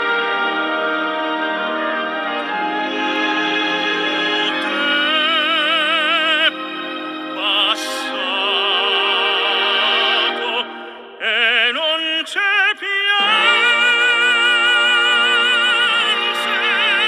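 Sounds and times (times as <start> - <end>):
musical accompaniment: 0.0 - 11.5, 13.2 - 17.0
operatic singing with vibrato: 0.0 - 17.0.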